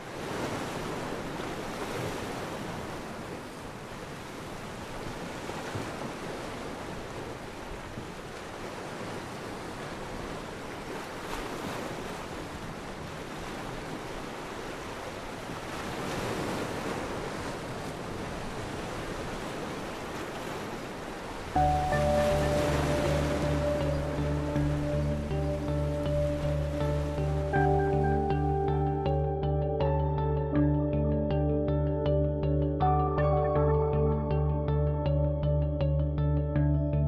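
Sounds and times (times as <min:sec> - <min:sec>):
ocean waves and surf: 0:00.0 - 0:30.1
wind: 0:00.0 - 0:37.0.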